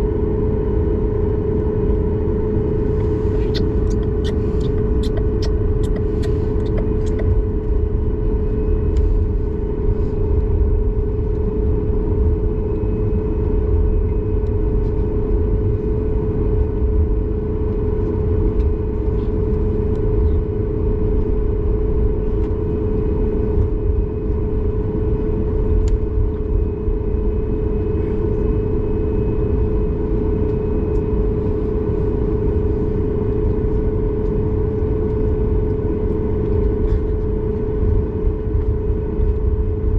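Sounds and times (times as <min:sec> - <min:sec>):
jet engines whine and rumble: 0:00.0 - 0:39.9.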